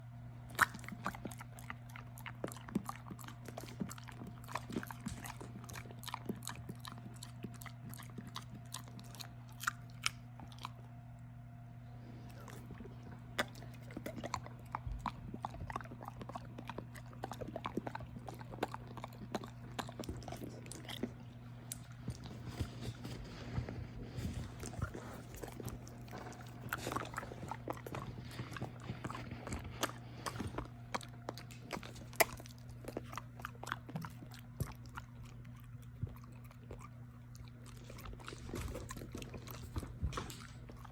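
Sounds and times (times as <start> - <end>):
dogs crunching treats: 0.5 - 11.0, 12.0 - 40.9.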